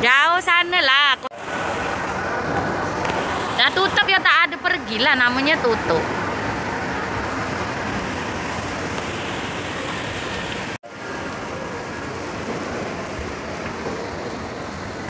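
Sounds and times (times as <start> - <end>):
shopping mall background noise: 0.0 - 15.0.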